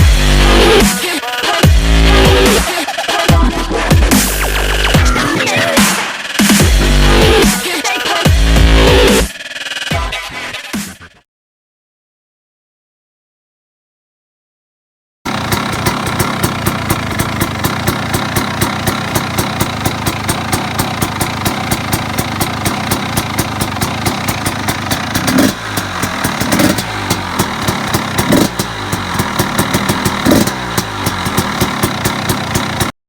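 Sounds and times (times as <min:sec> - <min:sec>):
two-stroke engine idling and revving: 0:00.0 - 0:10.6, 0:15.3 - 0:33.0.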